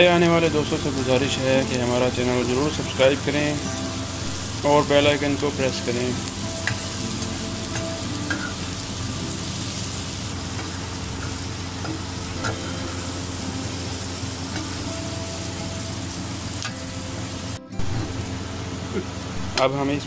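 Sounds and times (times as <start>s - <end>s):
onions sizzling in hot oil: 0.0s - 19.7s.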